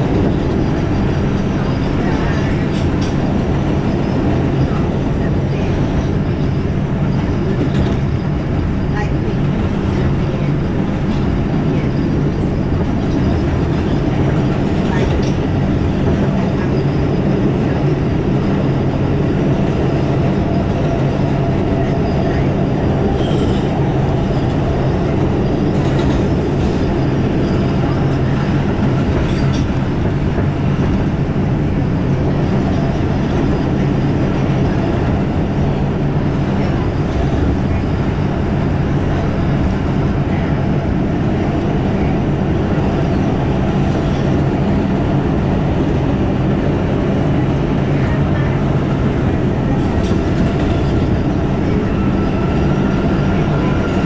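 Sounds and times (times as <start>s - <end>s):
subway train rumble: 0.0s - 54.0s
wheels clicking on track: 0.0s - 54.0s.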